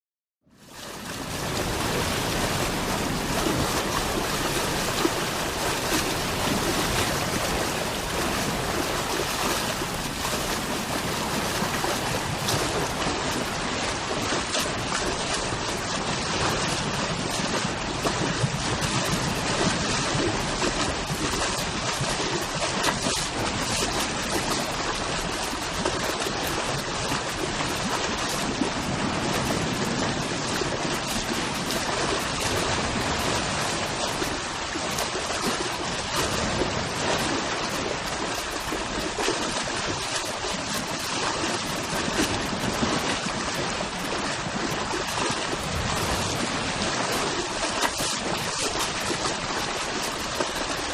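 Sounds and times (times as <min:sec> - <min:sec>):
sea waves washing on shore: 0:00.5 - 0:50.9.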